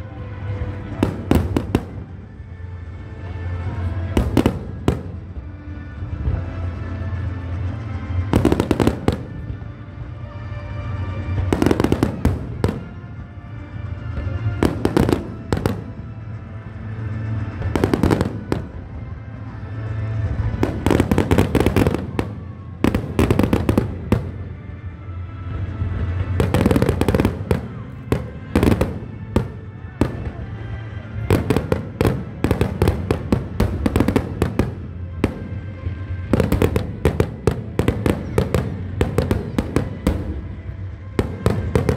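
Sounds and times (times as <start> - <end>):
fireworks bangs and crackling: 0.0 - 41.9
steady music: 0.0 - 41.9.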